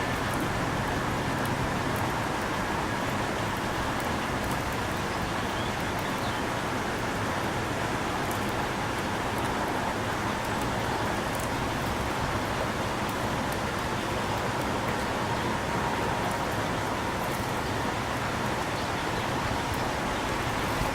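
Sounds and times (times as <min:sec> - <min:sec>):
constant rushing hiss: 0:00.0 - 0:20.9.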